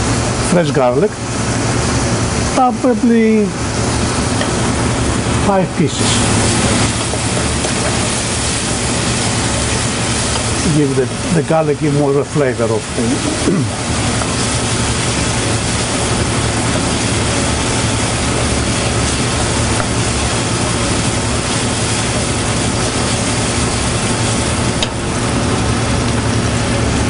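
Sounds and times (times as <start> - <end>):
constant low hum: 0.0 - 27.0
onions sizzling in oil: 0.0 - 27.0.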